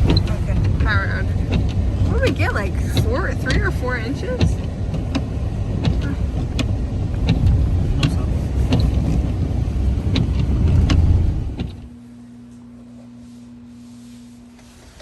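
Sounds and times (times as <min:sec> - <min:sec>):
car road and engine rumble: 0:00.0 - 0:15.0
steady low hum: 0:00.0 - 0:15.0.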